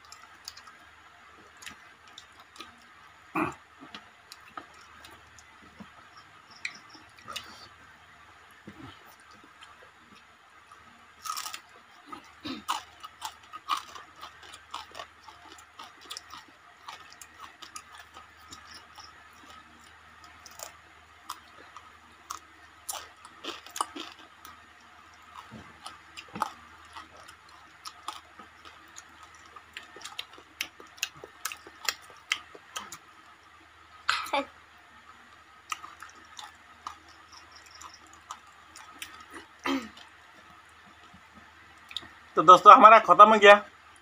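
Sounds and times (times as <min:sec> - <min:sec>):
chewing and crunching food: 0:00.0 - 0:34.2, 0:35.0 - 0:42.3.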